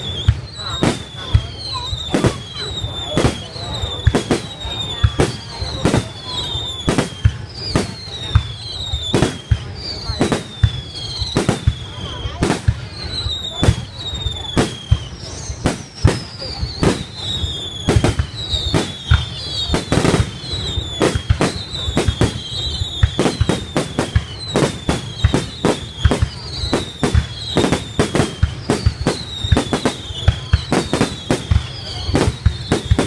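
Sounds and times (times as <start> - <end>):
falling firework whistle: 0.0 - 33.0
fireworks bangs and pops: 0.0 - 33.0.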